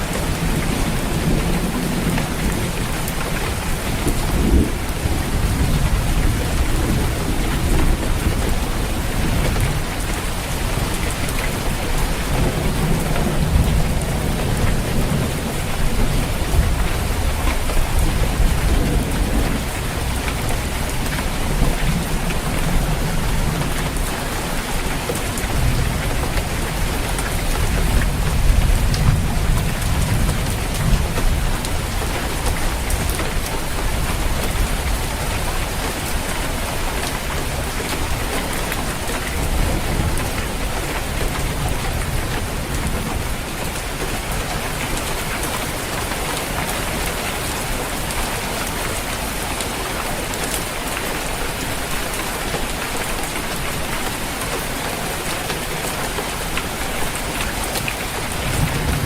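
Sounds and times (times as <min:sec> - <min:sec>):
rain on a roof: 0:00.0 - 0:59.0
low rolling thunder: 0:00.1 - 0:45.4, 0:57.0 - 0:59.0.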